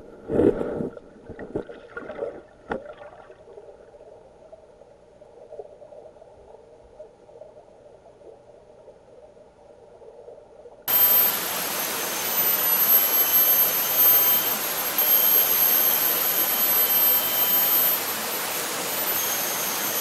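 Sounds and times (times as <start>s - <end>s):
muffled flowing river water: 0.0s - 20.0s.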